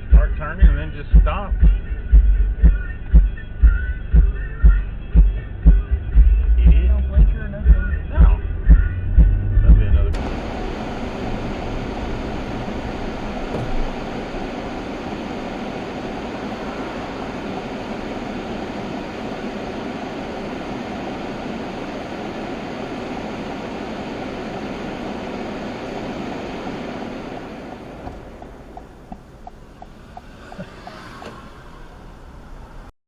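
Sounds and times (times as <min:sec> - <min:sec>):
car driving road noise: 0:04.9 - 0:32.9.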